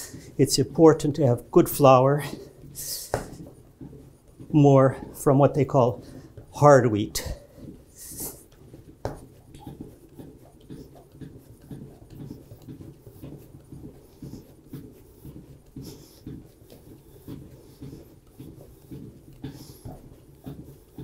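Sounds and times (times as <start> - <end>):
dough kneading thumps: 0.0 - 21.0.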